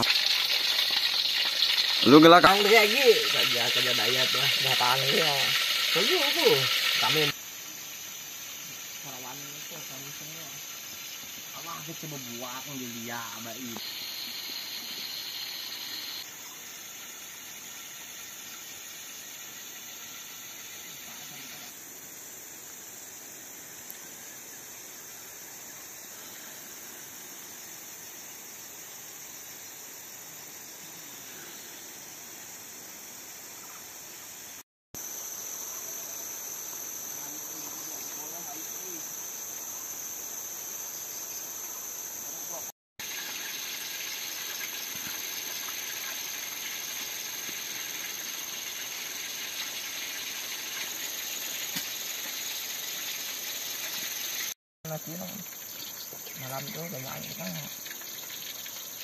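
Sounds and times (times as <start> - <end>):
constant hiss: 0.0 - 59.0
night insects droning: 0.0 - 59.0.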